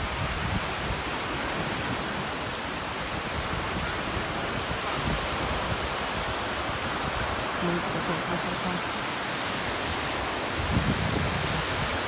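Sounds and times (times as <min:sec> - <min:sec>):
waves breaking on sandy beach: 0:00.0 - 0:12.0
wind buffeting microphone: 0:00.0 - 0:12.0.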